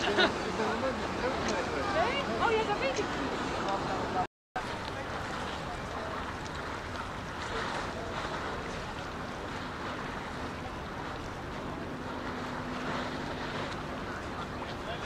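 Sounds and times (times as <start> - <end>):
watery rush: 0.0 - 15.0.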